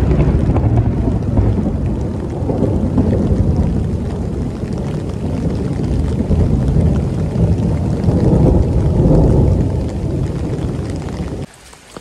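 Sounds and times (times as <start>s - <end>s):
heavy rain rumble: 0.0s - 12.0s.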